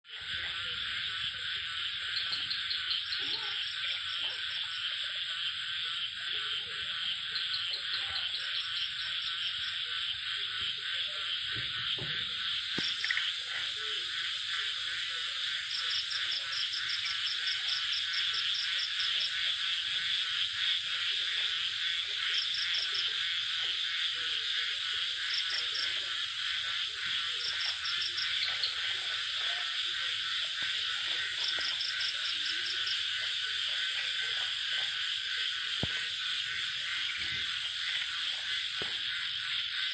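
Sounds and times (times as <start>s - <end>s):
frog chorus: 0.0s - 39.9s
rapid pulsed frog trills: 0.0s - 39.9s
low frog croaks: 0.1s - 39.9s.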